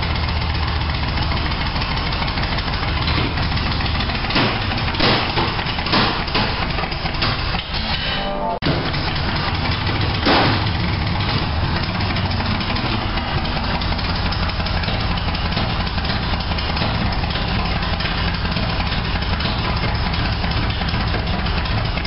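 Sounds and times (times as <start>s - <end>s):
engine idling: 0.0s - 8.0s, 8.6s - 22.0s.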